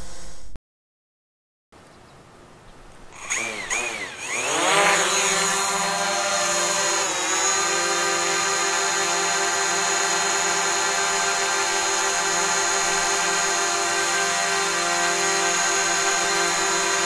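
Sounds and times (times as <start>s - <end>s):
drone propellers whining: 3.1s - 17.0s.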